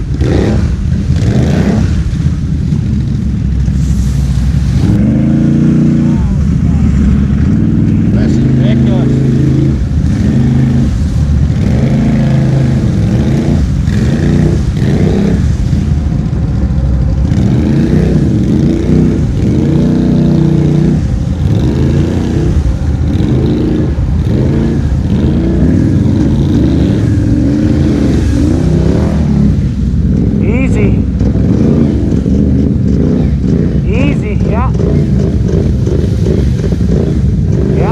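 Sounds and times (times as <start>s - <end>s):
atv engines revving: 0.0s - 37.9s.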